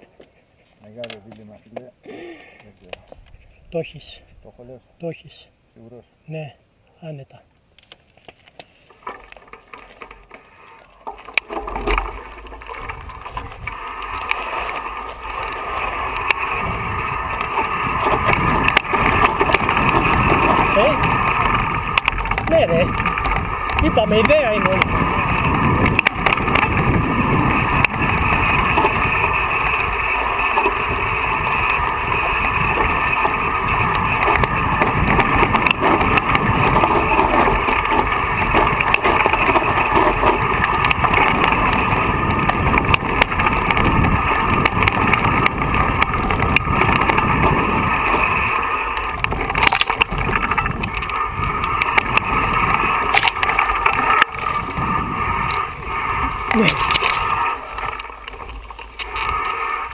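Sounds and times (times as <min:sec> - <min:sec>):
bike rattling over stones: 0:00.0 - 0:02.0, 0:07.6 - 0:59.9
wind rushing over microphone: 0:11.5 - 0:59.9.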